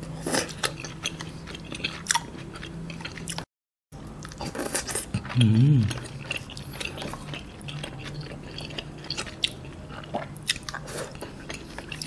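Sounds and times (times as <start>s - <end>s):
person chewing: 0.0s - 3.5s, 4.1s - 12.0s.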